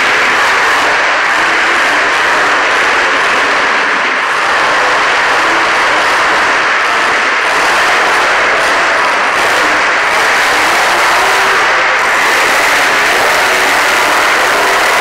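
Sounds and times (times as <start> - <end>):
monster truck engine running: 0.0 - 15.0.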